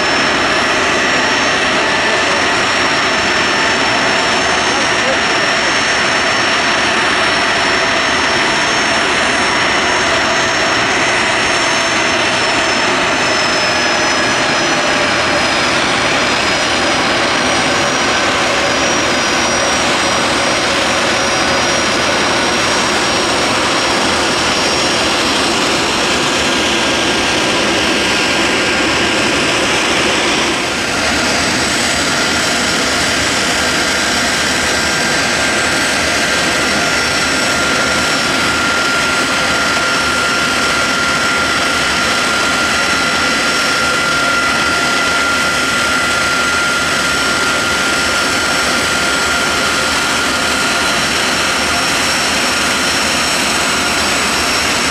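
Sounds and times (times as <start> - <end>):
high engine whine: 0.0 - 54.9
jet engine roar: 0.0 - 54.9.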